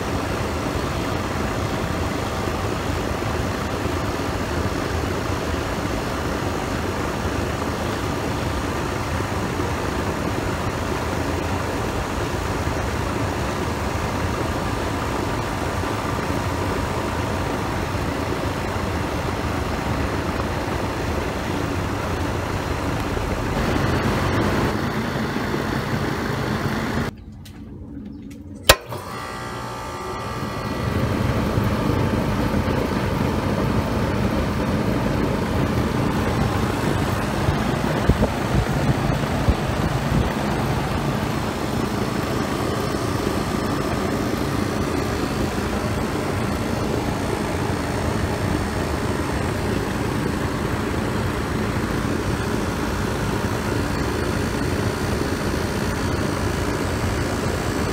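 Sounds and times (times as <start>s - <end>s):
air conditioner unit humming: 0.0s - 57.9s.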